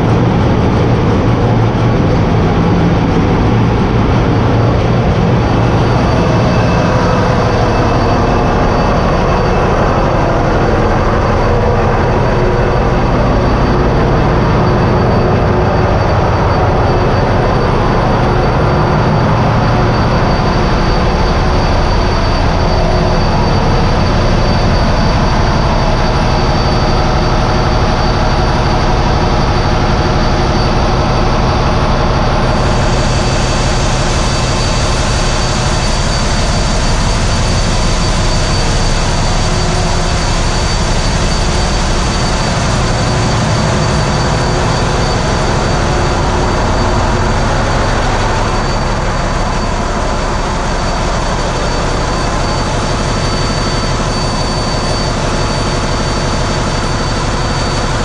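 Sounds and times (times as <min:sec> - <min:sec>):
diesel engine room din: 0:00.0 - 0:58.0
high whine: 0:00.0 - 0:58.0.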